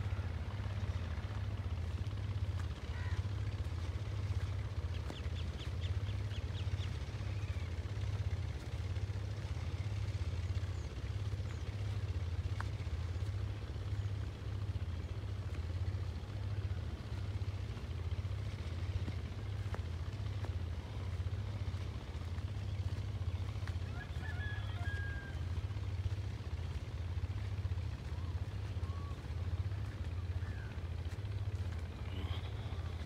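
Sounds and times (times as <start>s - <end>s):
engine throbbing: 0.0s - 33.0s.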